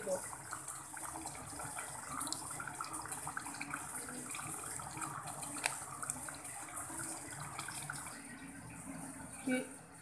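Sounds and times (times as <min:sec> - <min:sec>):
curry simmering with sizzling hiss: 0:00.0 - 0:10.0.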